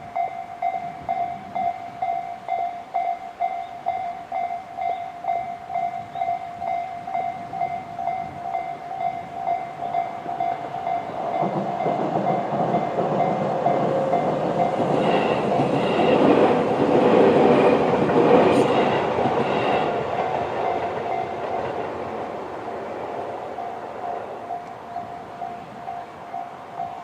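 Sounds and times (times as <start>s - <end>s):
electric train rumble: 0.0s - 27.0s.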